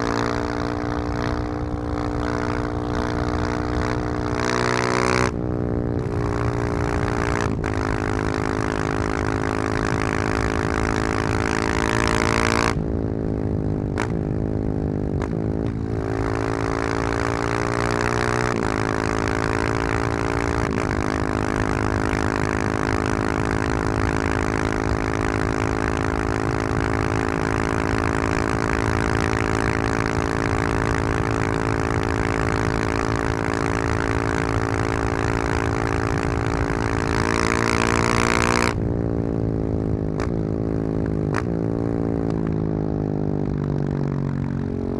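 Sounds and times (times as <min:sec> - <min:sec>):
motorcycle engine with loud exhaust: 0:00.0 - 0:44.9.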